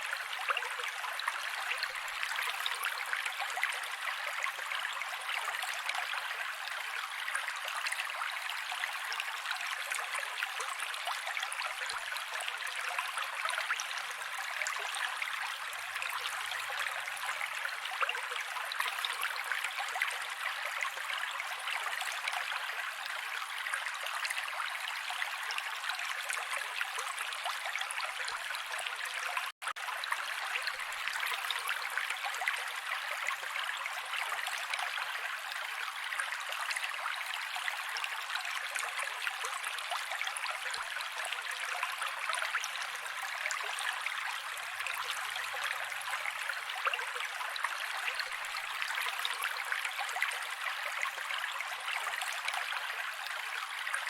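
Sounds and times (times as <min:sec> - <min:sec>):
creek water running over rocks: 0:00.0 - 0:54.0.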